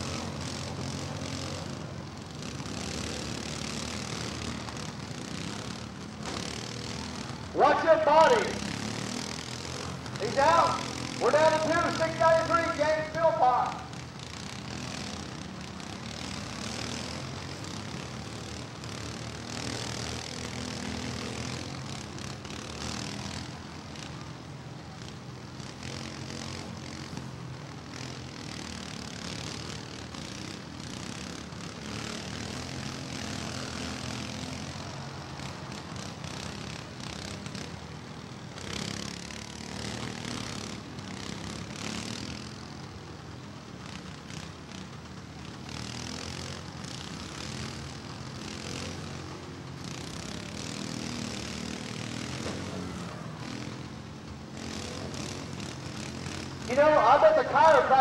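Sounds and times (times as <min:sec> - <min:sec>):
riding lawn mower engines: 0:00.0 - 0:58.0.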